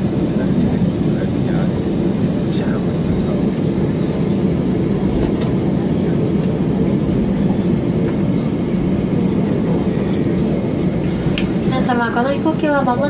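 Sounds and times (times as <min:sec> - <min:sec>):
air-conditioning: 0:00.0 - 0:13.0
jet engines idling: 0:00.0 - 0:13.0.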